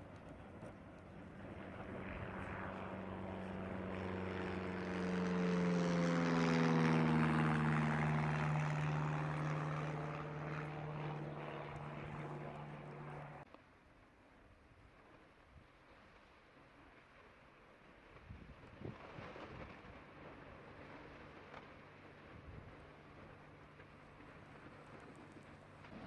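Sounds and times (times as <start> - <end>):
propeller aircraft engine drone: 0.0 - 15.4, 17.0 - 26.0.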